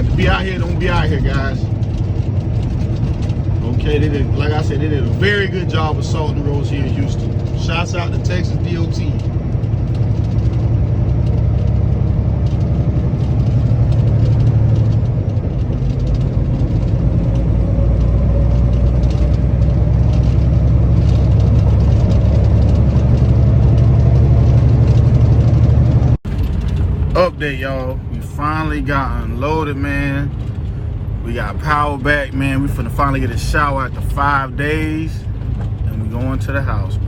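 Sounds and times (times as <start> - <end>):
engine and road noise in cab: 0.0 - 37.0.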